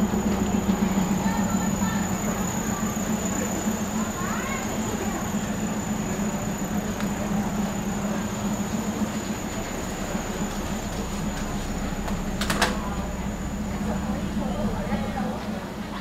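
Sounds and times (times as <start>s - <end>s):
railcar engine drone: 0.0s - 16.0s
wheels rumbling on track: 0.0s - 16.0s.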